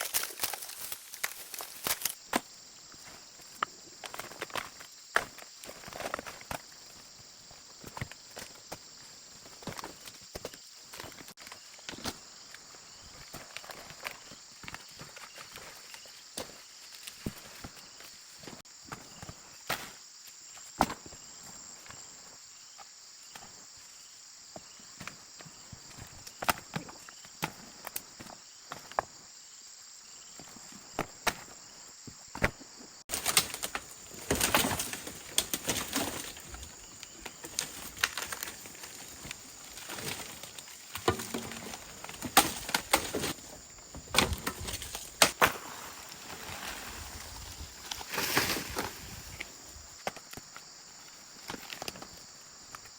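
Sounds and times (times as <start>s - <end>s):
insect chirring: 0.0s - 52.9s.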